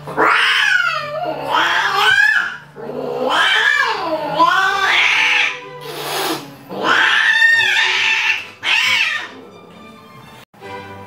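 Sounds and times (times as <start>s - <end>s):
cat hissing: 0.0s - 9.6s
cats yowling: 0.0s - 9.7s.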